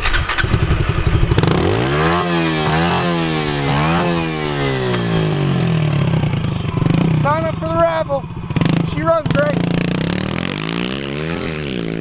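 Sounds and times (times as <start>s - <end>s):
motorbike engine revving and idling: 0.0s - 12.0s.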